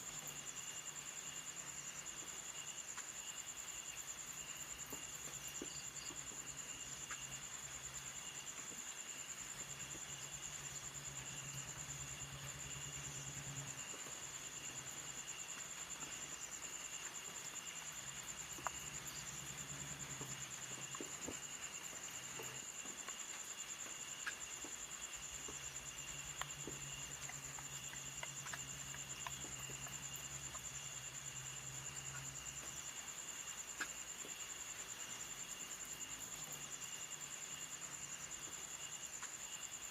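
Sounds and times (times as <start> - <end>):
insects chirring: 0.0 - 39.9
lower insect trill: 0.0 - 39.9.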